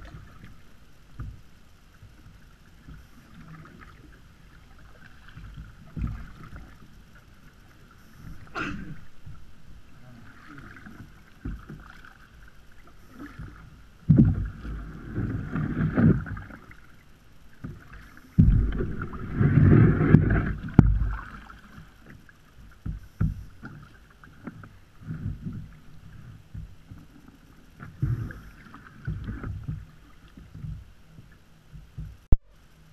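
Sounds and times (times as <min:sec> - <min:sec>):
water splashing: 0:02.0 - 0:31.5
paddle dipping into water: 0:02.1 - 0:32.5.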